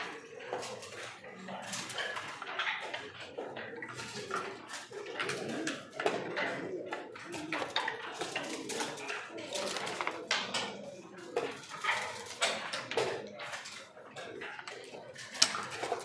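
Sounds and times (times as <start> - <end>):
checkers clacking on board: 0.0 - 16.0
indistinct background murmur: 0.0 - 16.0.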